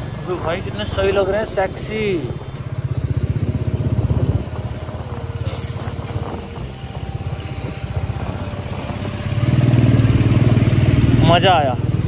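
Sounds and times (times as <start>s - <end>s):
wind noise rush: 0.0s - 10.3s
motorcycle engine pulsing: 0.0s - 12.0s.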